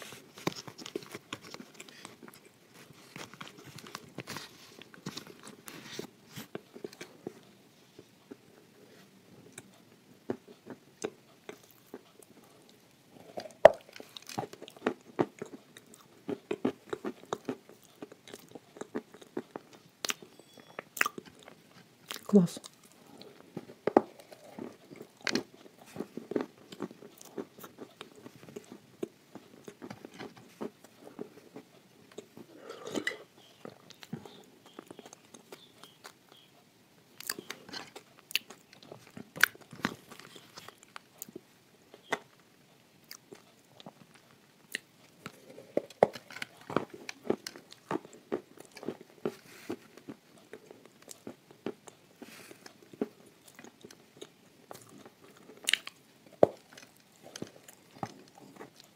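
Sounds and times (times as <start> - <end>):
crunchy chewing: 0.0 - 42.4, 43.0 - 58.9.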